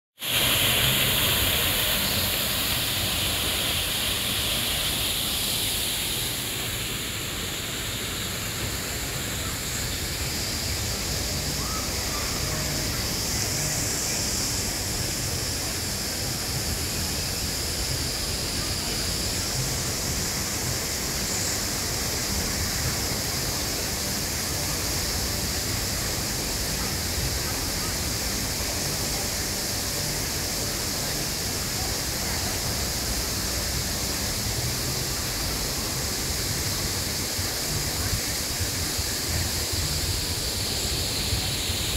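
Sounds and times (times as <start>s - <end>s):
waterfall splashing into pond: 0.2s - 41.9s.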